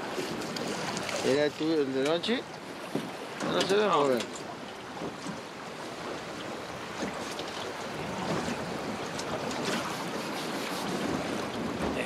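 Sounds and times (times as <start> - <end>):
river water rushing: 0.0 - 12.0
wind: 0.0 - 12.0.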